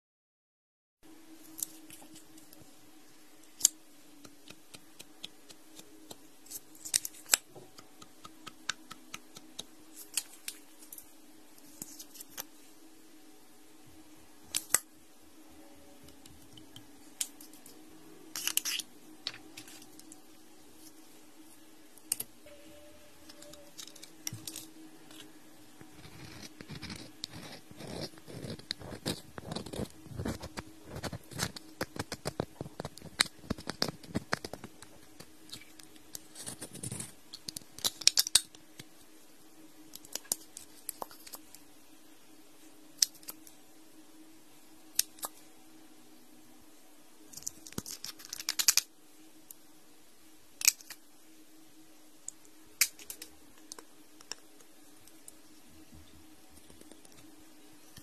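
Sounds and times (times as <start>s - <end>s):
faint steady hum: 1.0s - 58.0s.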